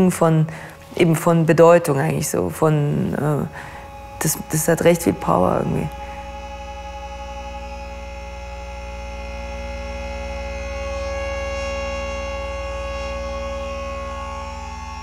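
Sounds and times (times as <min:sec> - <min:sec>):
electronic drone: 0:00.0 - 0:15.0
low pulsing hum: 0:00.0 - 0:15.0.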